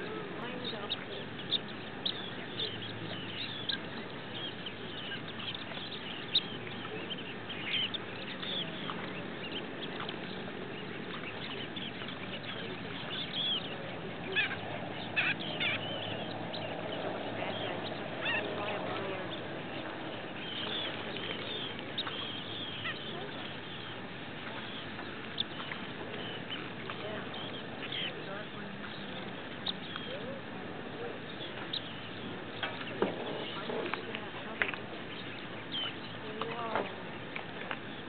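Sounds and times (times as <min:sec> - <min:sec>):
shorebirds calling: 0:00.0 - 0:38.0.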